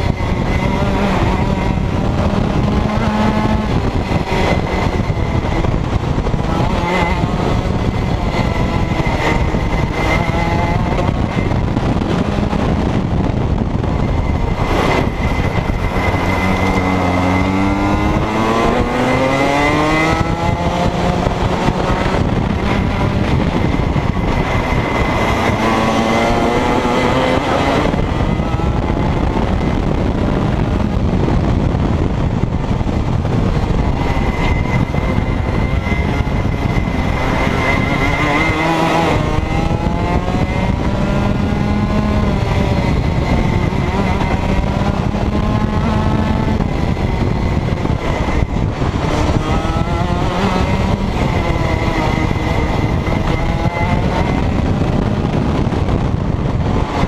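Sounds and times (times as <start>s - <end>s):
kart engine at racing speed: 0.0s - 57.0s.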